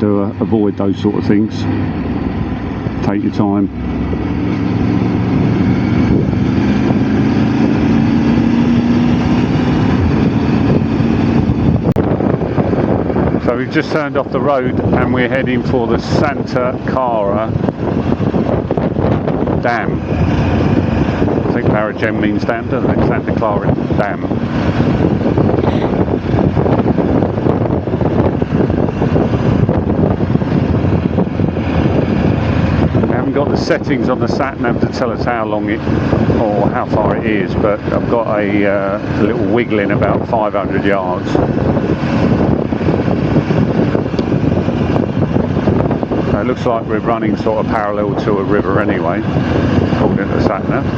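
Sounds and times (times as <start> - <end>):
motorcycle engine droning: 0.0 - 50.9
wind noise: 0.0 - 50.9.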